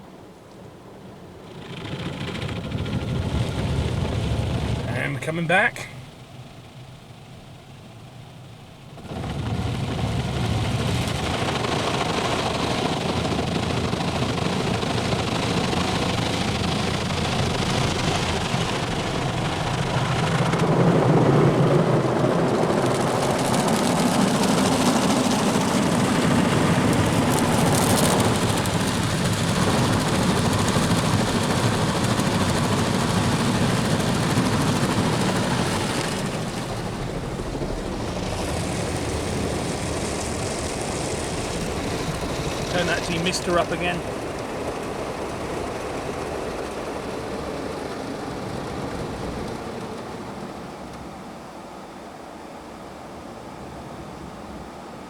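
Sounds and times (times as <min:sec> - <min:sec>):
car wash machinery rushing: 0:00.7 - 0:50.9.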